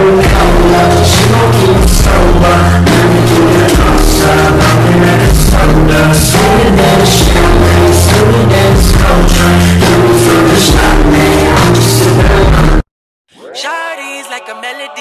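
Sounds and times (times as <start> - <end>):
loud pop music with deep bass: 0.0 - 12.8, 13.5 - 15.0.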